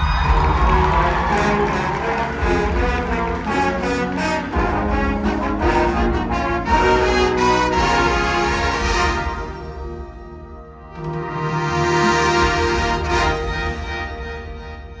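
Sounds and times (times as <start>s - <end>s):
brass and woodwind chords: 0.0s - 15.0s.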